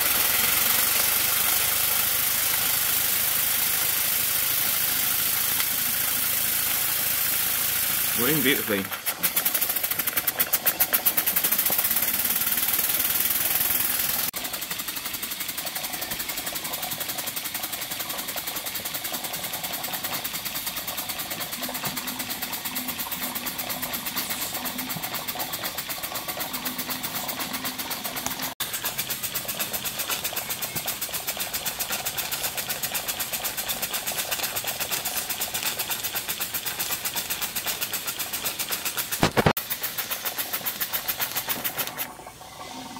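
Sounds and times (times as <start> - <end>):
steady steam hiss: 0.0 - 27.6, 28.4 - 42.5
steam engine exhaust beats: 0.0 - 42.9.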